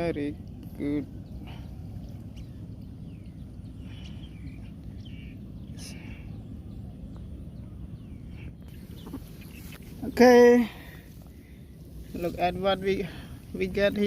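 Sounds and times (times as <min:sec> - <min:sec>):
bird chirps and calls: 0:00.0 - 0:14.0
low rumble: 0:00.0 - 0:14.0.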